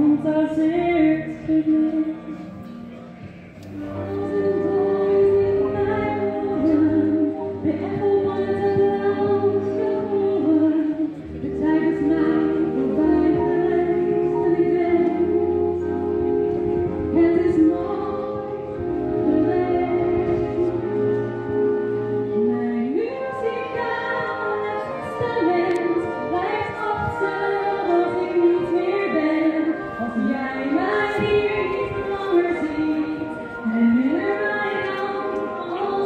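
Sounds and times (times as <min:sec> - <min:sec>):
low accompaniment: 0:00.0 - 0:36.0.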